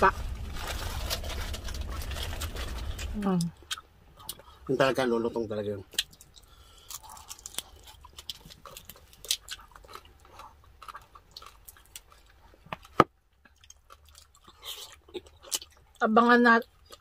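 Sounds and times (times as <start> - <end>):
chewing crispy food: 0.1 - 5.1, 5.9 - 17.0.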